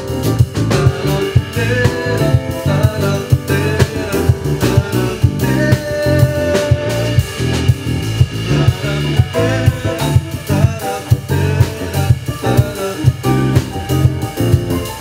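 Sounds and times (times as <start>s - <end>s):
drum kit beat: 0.0s - 15.0s
electric bass: 0.0s - 15.0s
keyboard: 0.0s - 15.0s.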